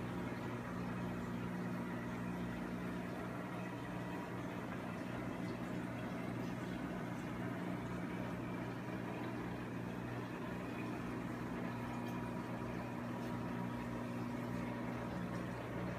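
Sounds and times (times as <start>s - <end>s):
aquarium equipment humming: 0.0s - 15.9s.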